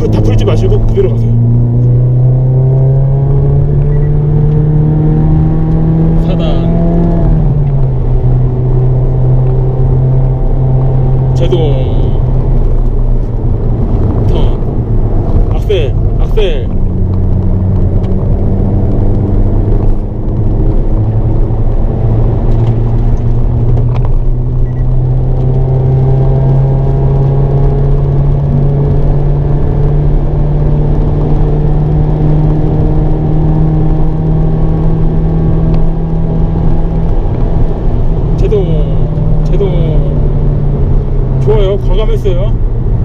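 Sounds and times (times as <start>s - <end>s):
car engine accelerating: 0.0s - 43.0s
road and tyre noise: 0.0s - 43.0s.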